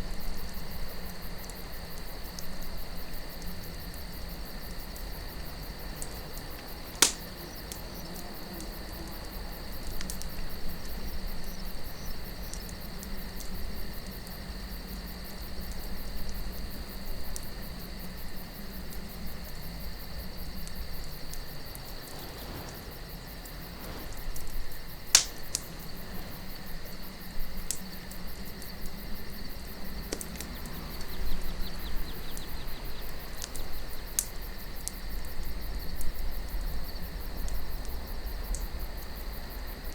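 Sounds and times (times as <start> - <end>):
campfire crackling: 0.0 - 39.9
crickets chirring: 0.0 - 39.9
low wind: 0.0 - 39.9.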